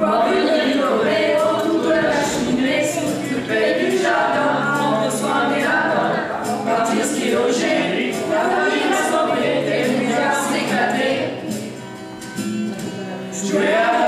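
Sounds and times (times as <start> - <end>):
young voices singing in chorus: 0.0 - 11.8, 13.3 - 14.0.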